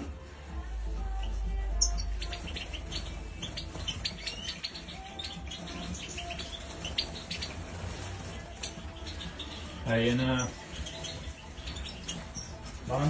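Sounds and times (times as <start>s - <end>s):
small birds chirping: 0.7s - 13.0s.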